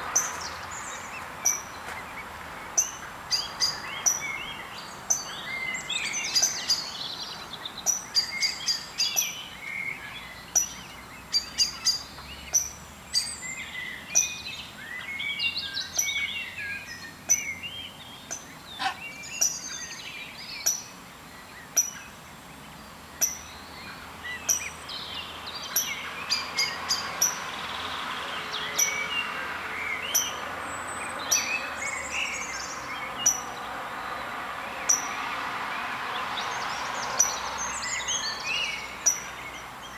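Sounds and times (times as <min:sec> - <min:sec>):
steady background hiss: 0:00.0 - 0:39.9
warbling songbird chorus: 0:00.0 - 0:39.9.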